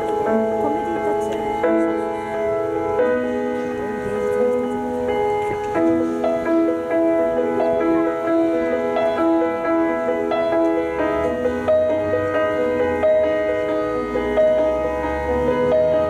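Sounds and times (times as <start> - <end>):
instrumental music with held notes: 0.0 - 16.0.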